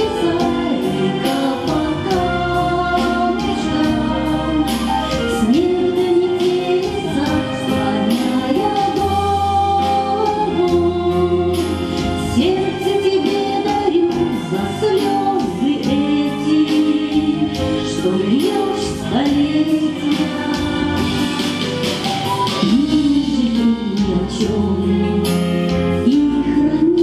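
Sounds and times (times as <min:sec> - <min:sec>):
woman singing into microphone: 0:00.0 - 0:21.7, 0:22.5 - 0:27.0
instrumental music with beat: 0:00.0 - 0:27.0.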